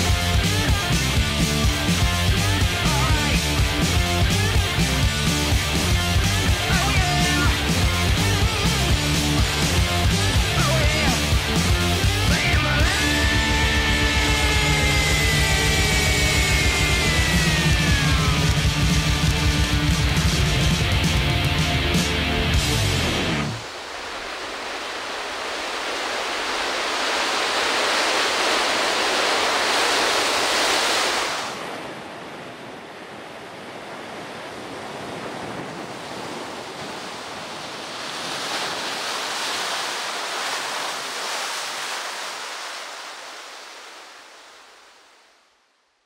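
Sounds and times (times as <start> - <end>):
ocean waves breaking: 0.0 - 45.5.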